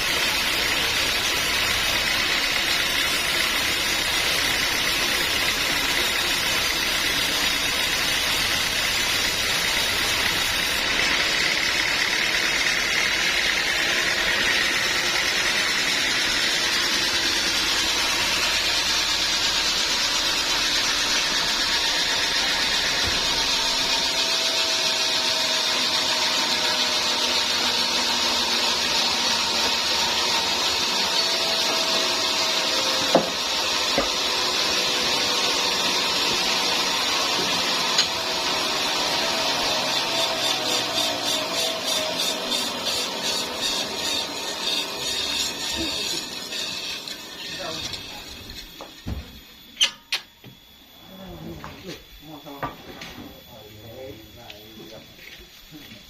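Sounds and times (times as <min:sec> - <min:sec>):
sawmill machinery running: 0:00.0 - 0:50.8.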